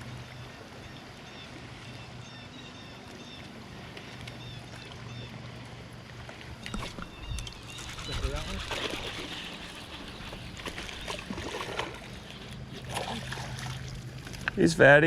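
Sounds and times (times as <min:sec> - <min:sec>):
boat motor humming: 0:00.0 - 0:15.0
water and wind noise: 0:00.0 - 0:15.0.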